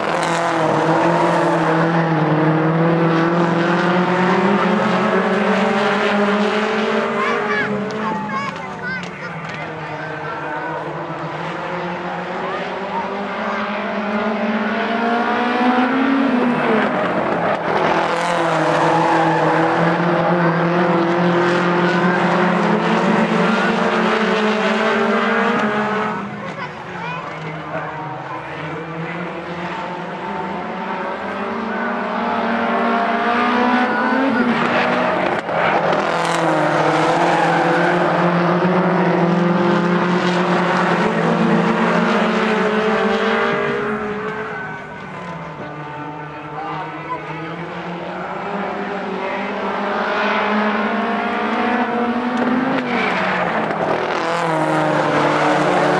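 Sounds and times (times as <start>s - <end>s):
racing car engines at high revs: 0.0s - 55.9s.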